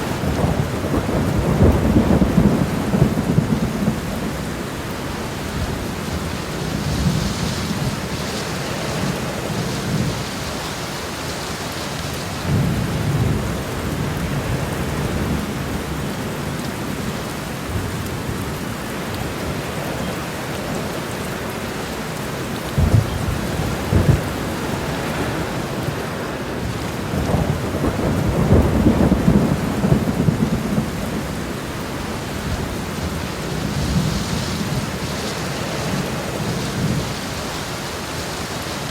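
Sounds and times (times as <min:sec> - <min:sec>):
heavy rain on a road: 0:00.0 - 0:38.9.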